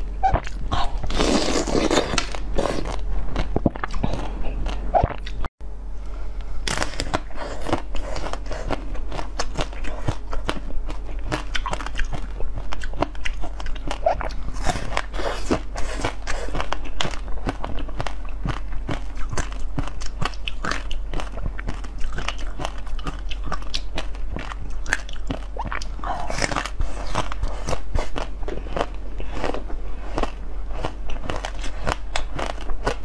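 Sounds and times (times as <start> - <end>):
biting and chewing jelly sweets: 0.0 - 5.5, 6.6 - 33.0.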